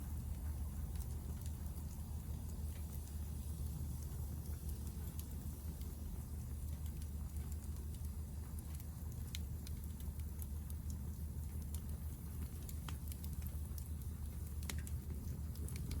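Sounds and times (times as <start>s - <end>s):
wood fire crackling: 0.1s - 16.0s.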